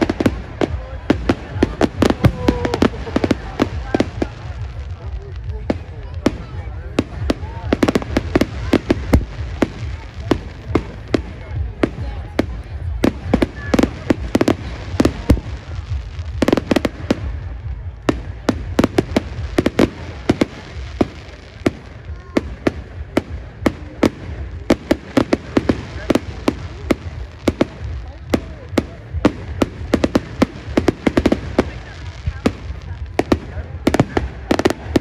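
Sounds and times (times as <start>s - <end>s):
fireworks bursting and crackling: 0.0s - 35.0s.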